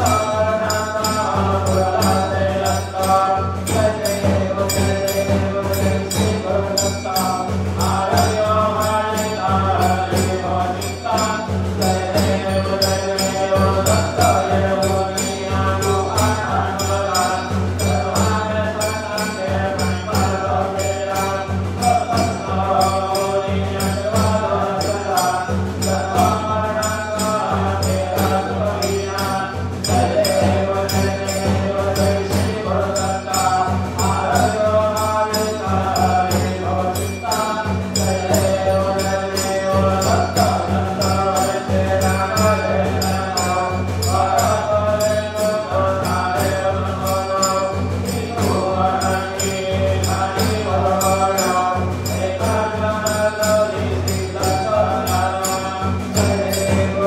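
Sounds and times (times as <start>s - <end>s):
devotional chant singing: 0.0s - 57.0s
rhythmic percussion: 0.0s - 57.0s.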